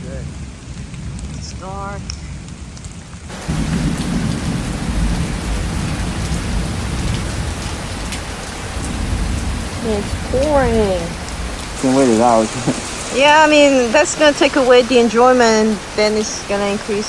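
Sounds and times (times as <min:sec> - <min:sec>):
low rumble of thunder: 0:00.0 - 0:16.6
heavy rain pouring: 0:00.0 - 0:17.0.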